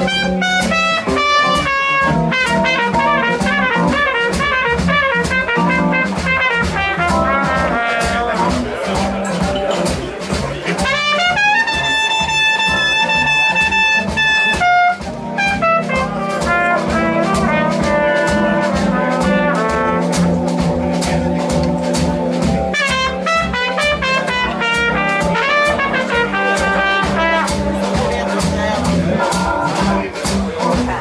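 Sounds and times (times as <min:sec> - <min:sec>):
horn solo: 0:00.0 - 0:08.7, 0:10.7 - 0:28.4
blues rock band playing: 0:00.0 - 0:31.0
steady drum beat: 0:00.0 - 0:31.0.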